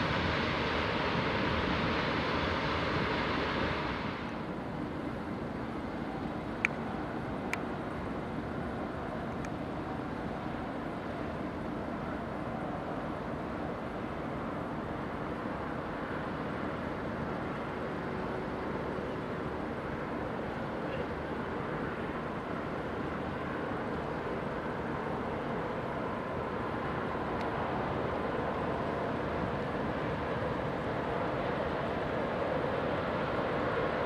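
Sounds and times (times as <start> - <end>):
freight train rumble and hum: 0.0 - 34.0.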